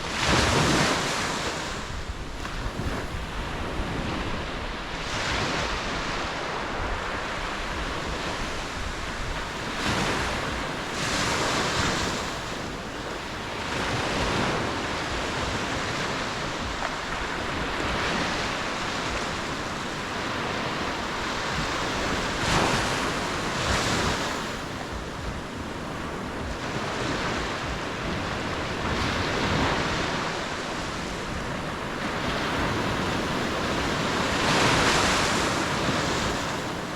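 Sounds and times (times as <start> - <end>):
waves breaking: 0.0 - 36.9.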